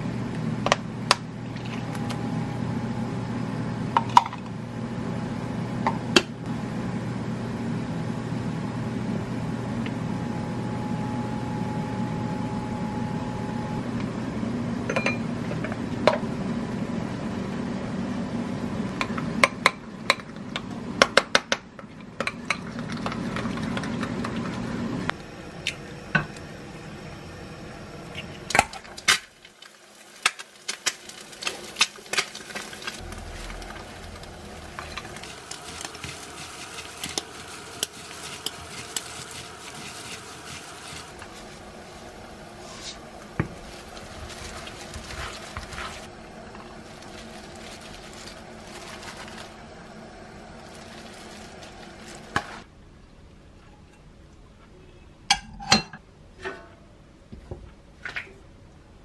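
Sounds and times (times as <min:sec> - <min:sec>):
steady hum: 0:00.0 - 0:21.0, 0:22.1 - 0:29.5, 0:30.8 - 0:57.3.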